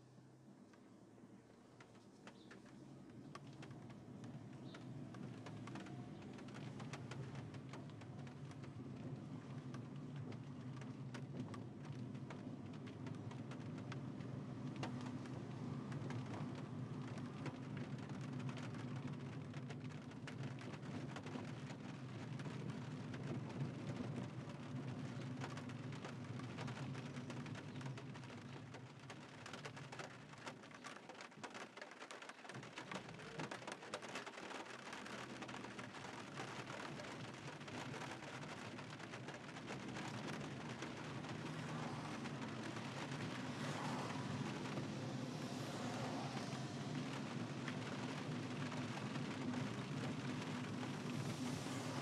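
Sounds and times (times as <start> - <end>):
engine and road hum: 0.0 - 31.2, 32.2 - 52.0
rain pattering on car: 0.2 - 52.0.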